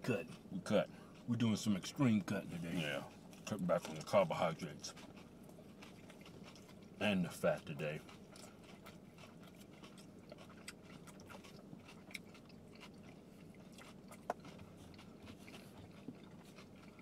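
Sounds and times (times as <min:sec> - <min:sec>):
biting and chewing: 0:00.0 - 0:17.0
low steady hum: 0:00.0 - 0:17.0.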